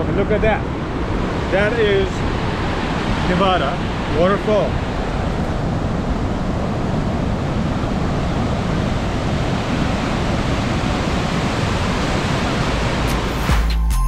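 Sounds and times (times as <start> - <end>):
waterfall roaring: 0.0 - 13.4.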